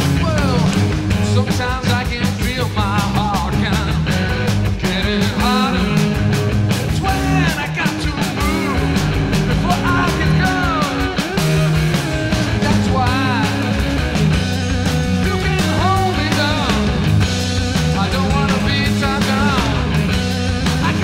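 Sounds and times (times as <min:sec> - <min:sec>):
bass guitar: 0:00.0 - 0:21.0
drum kit: 0:00.0 - 0:21.0
electric guitar lead with bent notes: 0:00.0 - 0:21.0.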